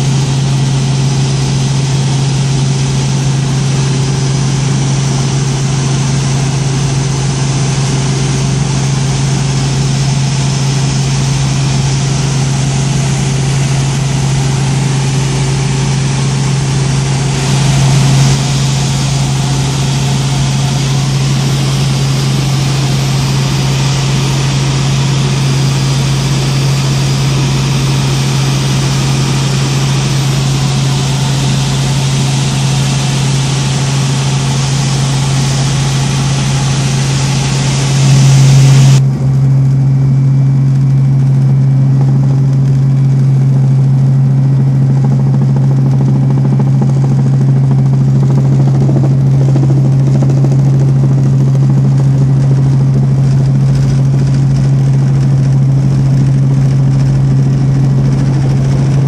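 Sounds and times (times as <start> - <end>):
helicopter engine and rotor drone: 0.0 - 59.0
low hum: 0.0 - 59.0.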